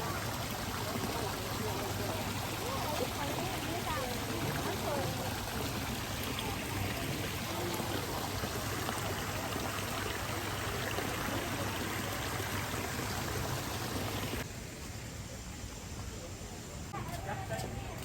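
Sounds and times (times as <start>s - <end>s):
flowing water rushing: 0.0s - 14.5s.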